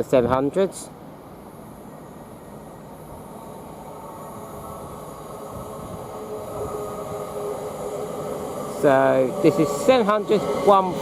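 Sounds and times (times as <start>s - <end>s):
train whine: 0.0s - 11.0s
electric train running: 1.5s - 11.0s.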